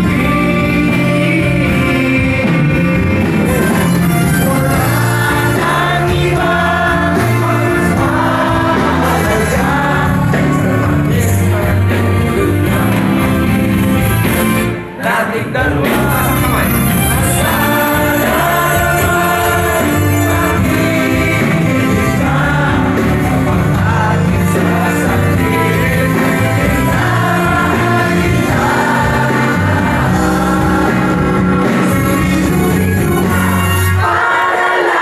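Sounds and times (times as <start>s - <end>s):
crowd singing along: 0.0s - 35.0s
live band playing: 0.0s - 35.0s.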